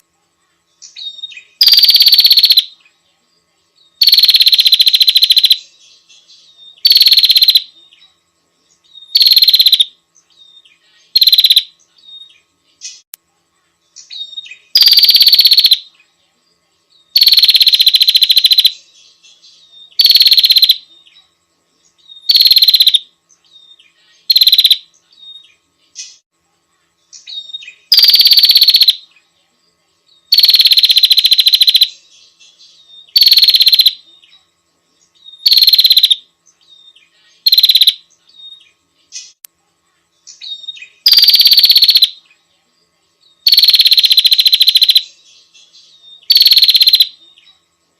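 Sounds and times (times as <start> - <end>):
bird buzzy trills: 0.7 - 3.0, 3.9 - 13.1, 13.8 - 16.2, 16.9 - 29.4, 30.0 - 39.5, 40.2 - 42.4, 43.3 - 47.7.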